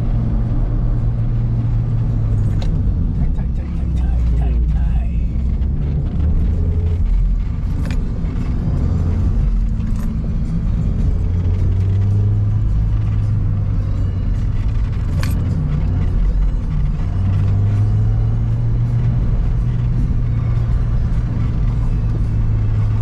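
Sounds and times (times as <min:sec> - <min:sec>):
car engine: 0:00.0 - 0:23.0
road noise inside car: 0:00.0 - 0:23.0.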